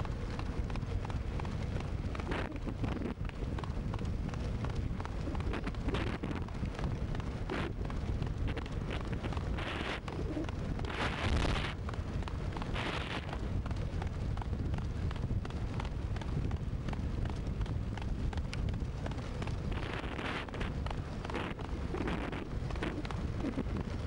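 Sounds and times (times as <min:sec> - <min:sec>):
cart wheels rumbling on asphalt: 0:00.0 - 0:24.0
wind buffeting microphone: 0:00.0 - 0:24.0.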